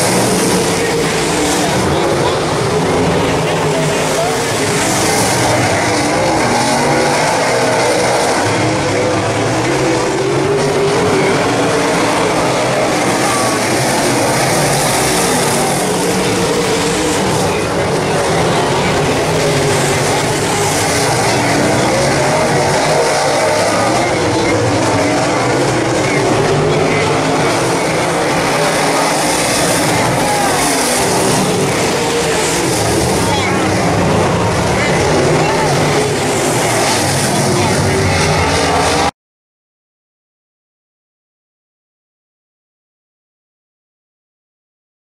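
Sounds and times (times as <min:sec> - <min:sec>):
race car engines droning: 0:00.0 - 0:39.1.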